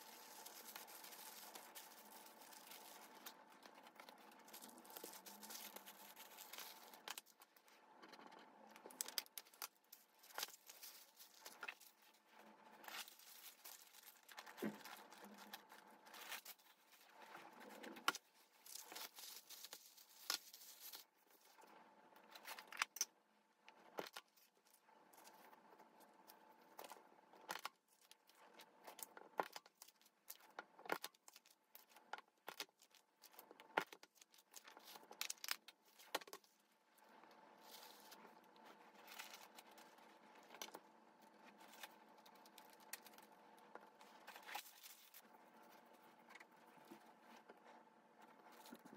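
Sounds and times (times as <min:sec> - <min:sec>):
wrapping paper rustling: 0:00.0 - 0:07.7, 0:08.8 - 0:21.6, 0:24.0 - 0:48.9.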